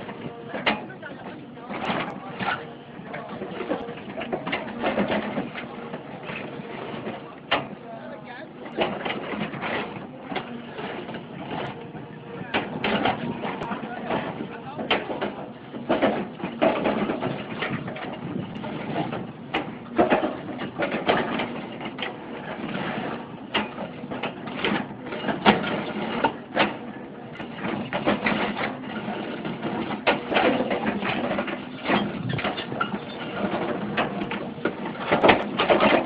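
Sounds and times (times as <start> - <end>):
excavator engine running: 0.0 - 36.0.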